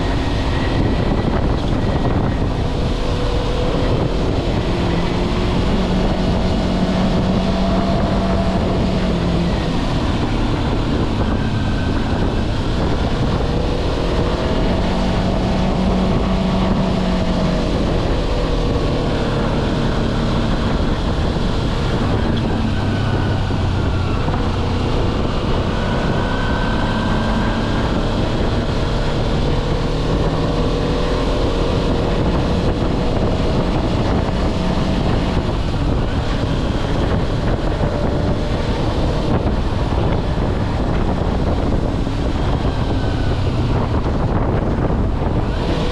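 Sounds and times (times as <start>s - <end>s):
motorcycle engine running: 0.0s - 45.9s
wind rushing over microphone: 0.0s - 45.9s.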